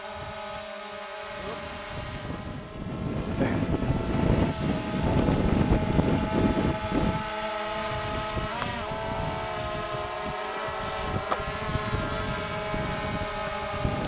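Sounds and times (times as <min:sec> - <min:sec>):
drone propellers buzzing: 0:00.0 - 0:14.0
wind buffeting microphone: 0:00.0 - 0:14.0.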